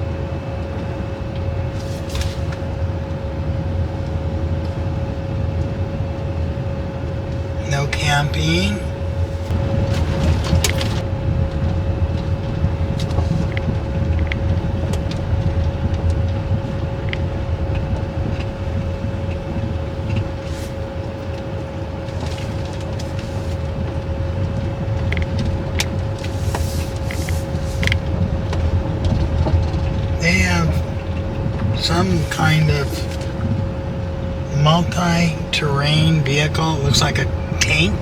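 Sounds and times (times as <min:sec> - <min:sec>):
road and engine rumble: 0:00.0 - 0:38.0
steady hum: 0:00.0 - 0:38.0.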